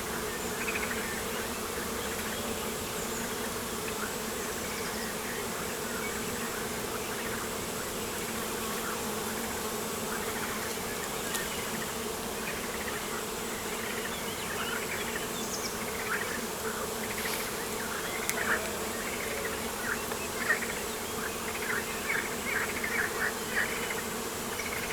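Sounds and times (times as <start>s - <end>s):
flying insects buzzing: 0.0s - 24.9s.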